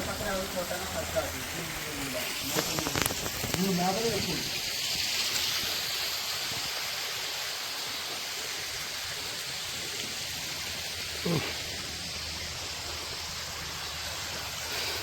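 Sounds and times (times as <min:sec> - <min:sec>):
small waterfall splashing into pool: 0:00.0 - 0:15.0.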